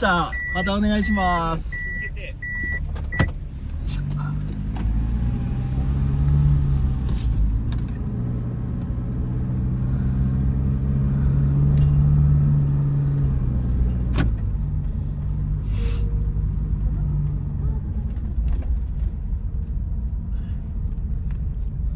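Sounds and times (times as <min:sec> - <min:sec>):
van engine running: 0:00.0 - 0:21.9.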